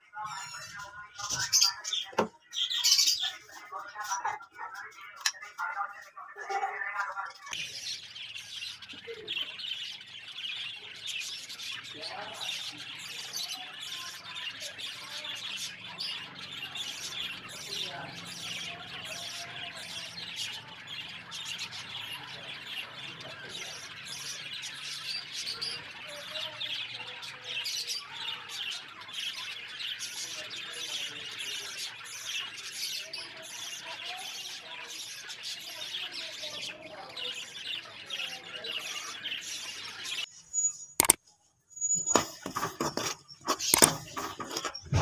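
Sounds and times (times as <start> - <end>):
birds chirping and squawking: 0.0 - 45.0.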